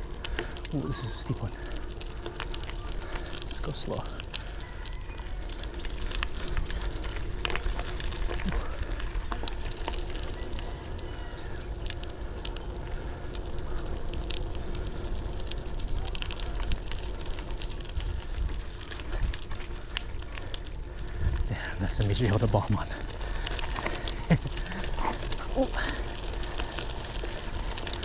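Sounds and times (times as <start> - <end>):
bike clicks and rattles: 0.0 - 28.0
tyre and wind rumble: 0.0 - 28.0.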